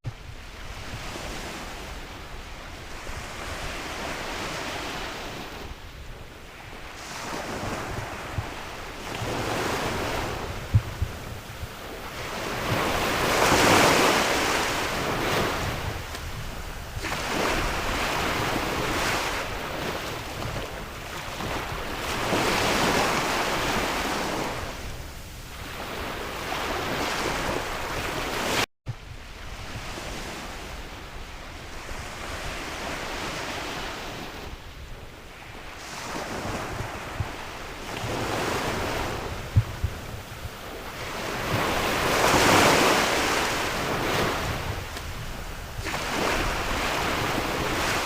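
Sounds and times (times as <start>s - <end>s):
wind blowing: 0.0s - 48.0s
sea waves breaking: 0.2s - 48.0s.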